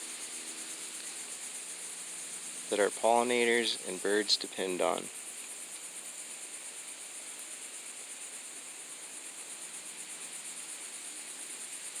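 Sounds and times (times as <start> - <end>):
cicadas calling: 0.0 - 12.0.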